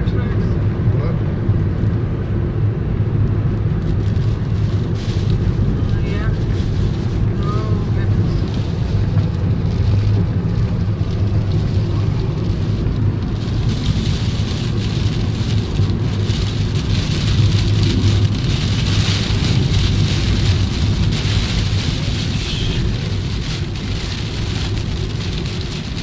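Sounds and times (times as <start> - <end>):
heavy rain on a car: 0.0 - 26.0
low rumble: 0.0 - 26.0.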